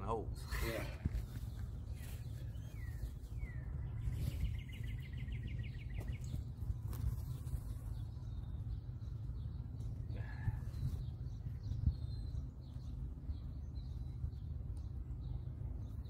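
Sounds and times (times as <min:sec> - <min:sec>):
low outdoor rumble: 0:00.0 - 0:16.0
small bird chirping and trilling: 0:00.4 - 0:16.0.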